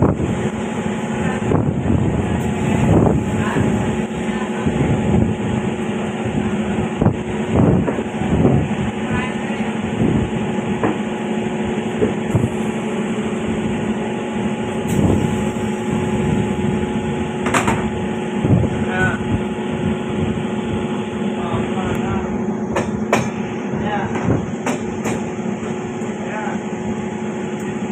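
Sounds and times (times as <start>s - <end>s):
constant hum: 0.0s - 27.9s
train running rumble: 0.0s - 27.9s.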